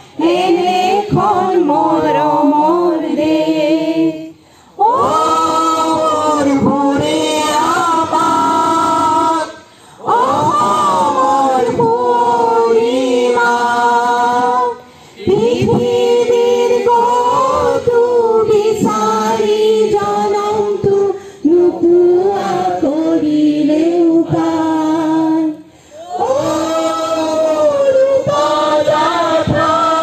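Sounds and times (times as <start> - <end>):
group singing in unison: 0.0 - 30.0.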